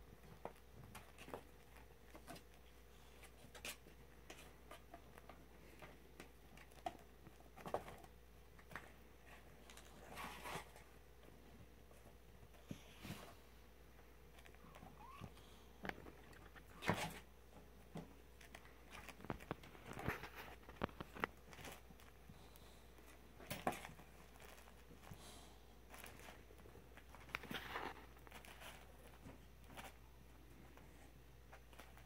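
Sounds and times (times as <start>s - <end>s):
kittens rustling and scratching: 0.0s - 32.0s.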